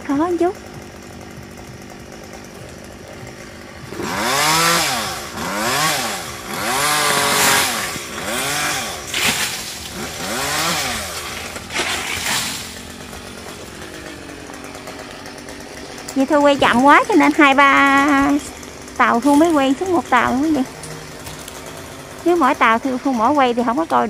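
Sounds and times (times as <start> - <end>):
chainsaw revving: 0.0 - 24.0.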